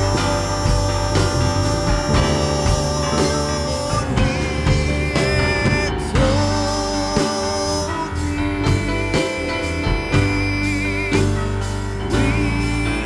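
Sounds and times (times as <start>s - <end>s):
guitar: 0.0s - 13.0s
steady bass: 0.0s - 13.0s
worship band instrumental: 0.0s - 13.0s.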